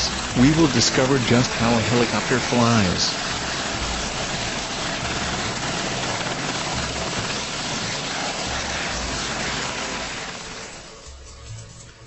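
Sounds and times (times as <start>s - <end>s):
helicopter rotor and engine: 0.0s - 11.7s.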